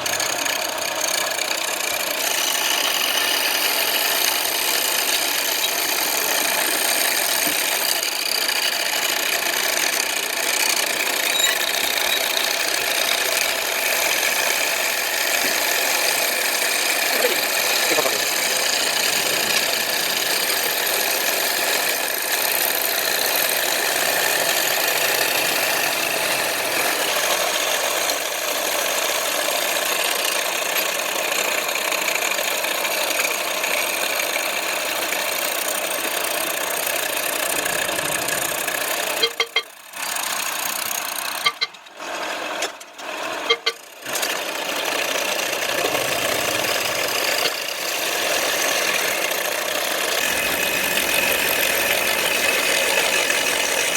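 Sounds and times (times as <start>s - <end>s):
power tool on steel plate: 0.0s - 53.9s.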